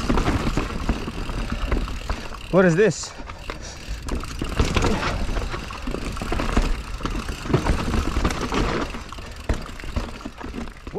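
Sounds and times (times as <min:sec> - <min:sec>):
mountain bike rumbling over rough trail: 0:00.0 - 0:10.9.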